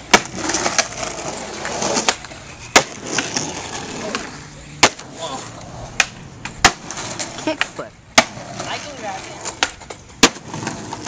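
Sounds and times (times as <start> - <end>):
skateboard clacking on ground: 0.0 - 11.0
skateboard wheels rolling on concrete: 0.0 - 11.0.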